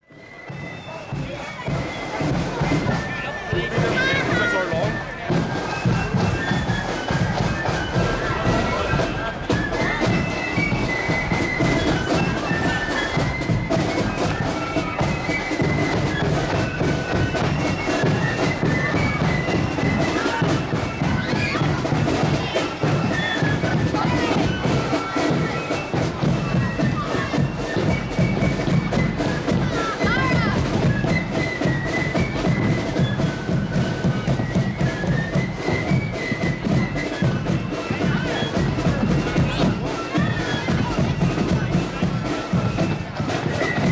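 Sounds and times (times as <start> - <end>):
drums beating: 0.0 - 43.9
high-pitched wind instruments: 0.0 - 43.9
shrill flute melody: 0.0 - 43.9.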